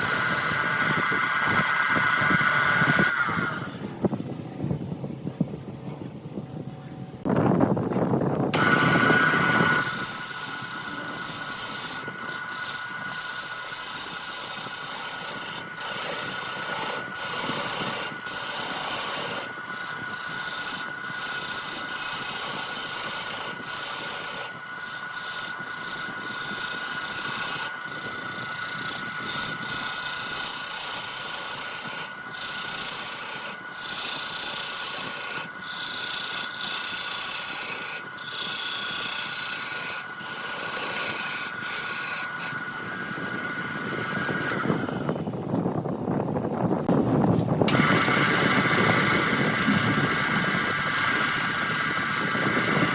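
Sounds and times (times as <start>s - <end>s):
turning tool scraping wood: 0.0s - 3.8s, 8.6s - 45.7s, 46.8s - 52.9s
lathe whine: 0.0s - 4.8s, 8.2s - 52.9s.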